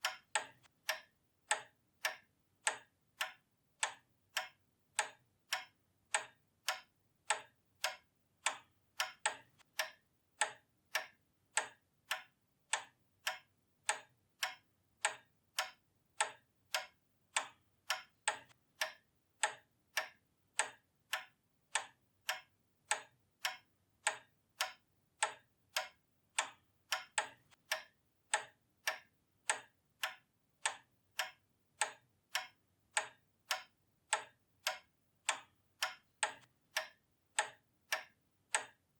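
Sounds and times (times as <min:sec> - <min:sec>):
pendulum clock ticking: 0:00.0 - 0:38.9.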